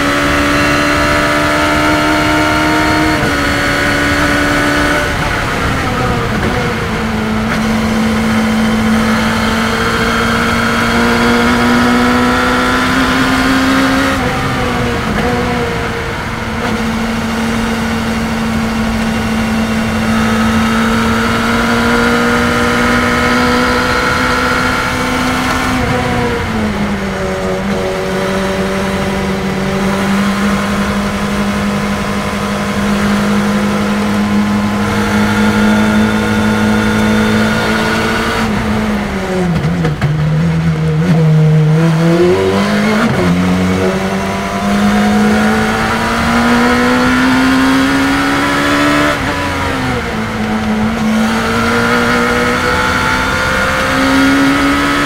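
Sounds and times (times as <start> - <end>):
race car engine: 0.0 - 55.0
wind and road noise: 0.0 - 55.0.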